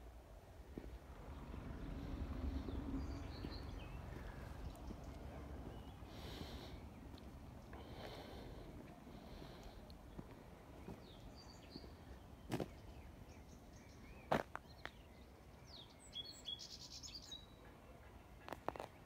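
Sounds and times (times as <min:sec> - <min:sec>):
small birds chirping: 0:00.8 - 0:19.0.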